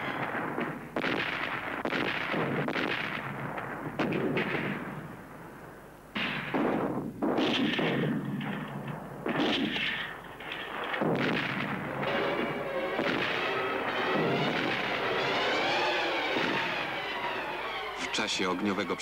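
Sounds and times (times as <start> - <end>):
artillery shells exploding: 0.0 - 19.0
din of firing and explosions: 0.0 - 19.0.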